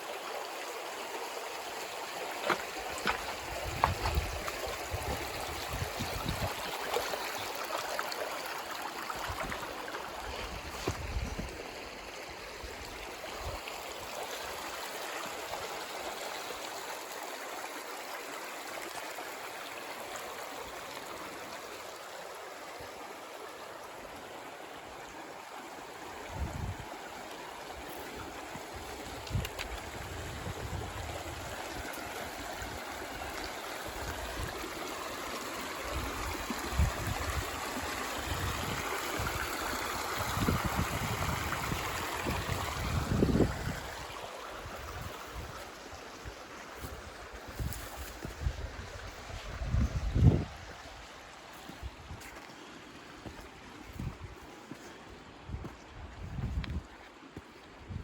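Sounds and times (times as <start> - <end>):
water rushing over rocks: 0.0 - 23.2, 23.8 - 53.9.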